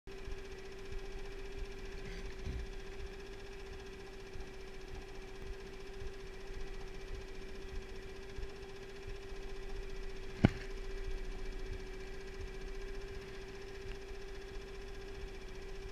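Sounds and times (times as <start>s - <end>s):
boat motor running: 0.1s - 15.9s.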